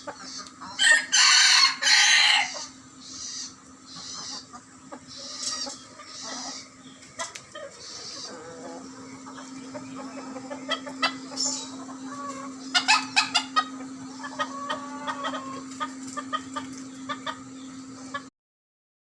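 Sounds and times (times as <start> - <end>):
chickens clucking: 0.0 - 18.3
steady low hum: 0.0 - 18.3.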